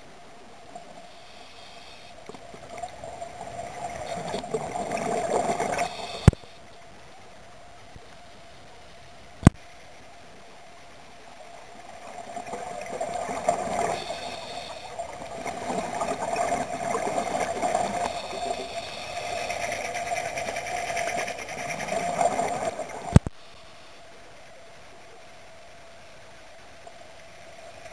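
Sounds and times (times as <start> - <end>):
steady hum: 0.0 - 26.6
muffled underwater wash: 0.0 - 27.9.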